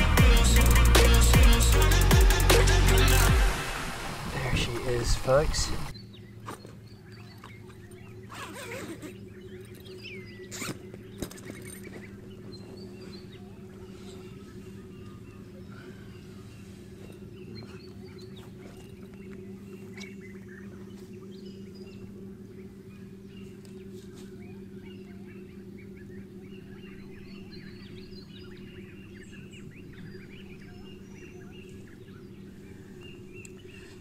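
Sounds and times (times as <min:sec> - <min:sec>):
steady low hum: 0:00.0 - 0:34.0
birds chirping and calling: 0:04.4 - 0:34.0.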